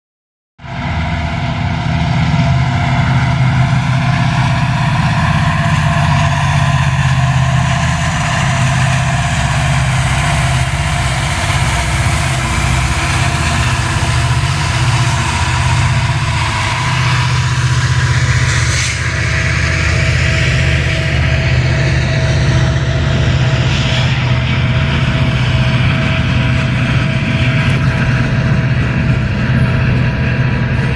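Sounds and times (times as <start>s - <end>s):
diesel locomotives passing: 0.6s - 30.9s.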